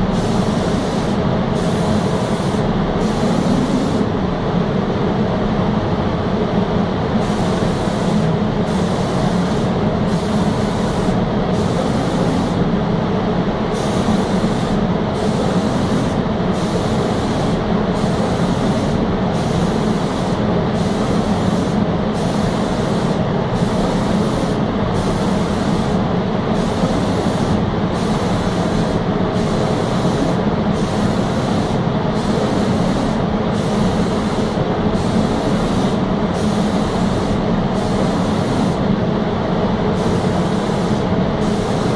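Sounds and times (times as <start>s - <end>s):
spray gun hissing: 0.1s - 4.1s, 7.2s - 12.6s, 13.7s - 38.8s, 39.9s - 41.9s.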